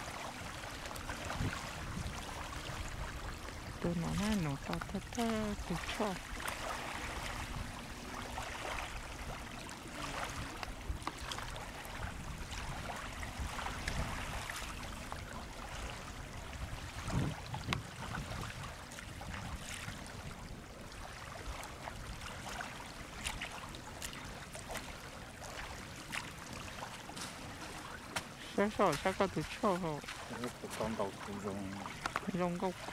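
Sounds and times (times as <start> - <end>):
waves lapping against bank: 0.0 - 32.9.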